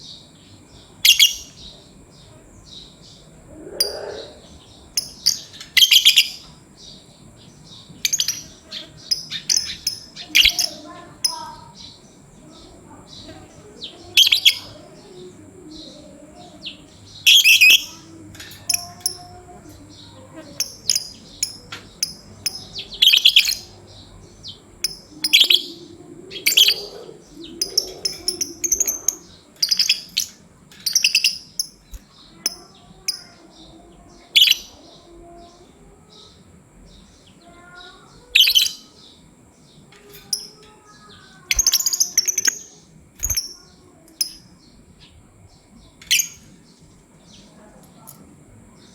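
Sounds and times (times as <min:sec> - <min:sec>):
lovebirds chirping: 0:00.0 - 0:48.9.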